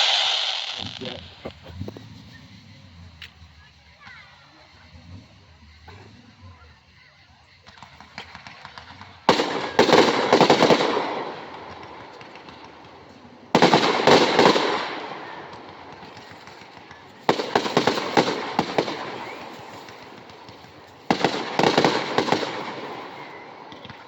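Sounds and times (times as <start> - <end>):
fireworks crackling pops: 0.0 - 6.3, 7.5 - 24.0.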